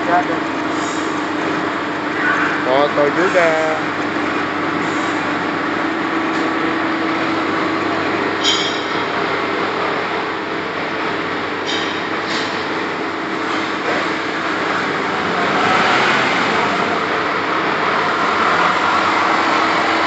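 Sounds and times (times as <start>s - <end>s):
metal lathe running: 0.0s - 20.0s.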